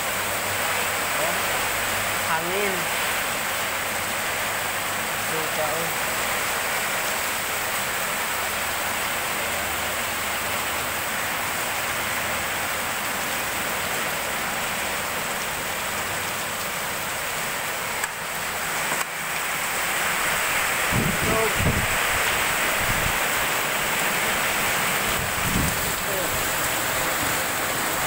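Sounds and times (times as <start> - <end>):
heavy rain on pavement: 0.0 - 28.0.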